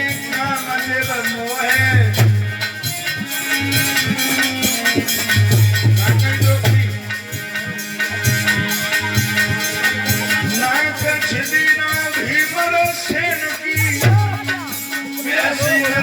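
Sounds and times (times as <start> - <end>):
folk melody: 0.0 - 16.0.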